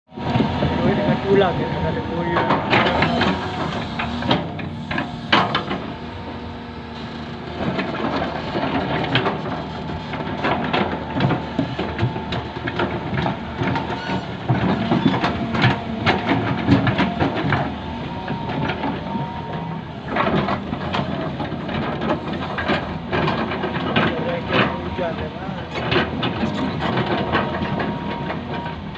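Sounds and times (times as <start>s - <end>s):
excavator engine running: 0.1s - 28.9s
bucket and tracks clattering: 0.2s - 28.9s
knocks and crunching scrapes: 2.2s - 28.9s.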